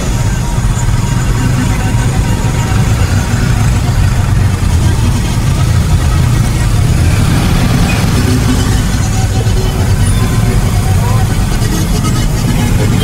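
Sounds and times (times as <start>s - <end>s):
traffic engines idling: 0.0s - 13.0s.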